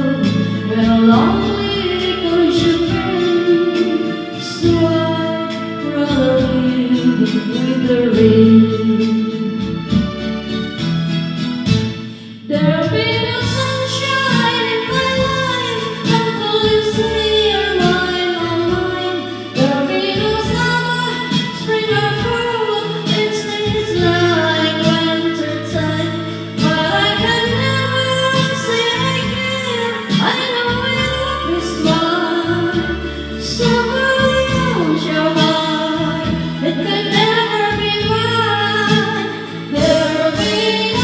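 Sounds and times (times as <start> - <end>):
woman singing: 0.0 - 10.2, 12.5 - 41.0
karaoke backing track: 0.0 - 41.0.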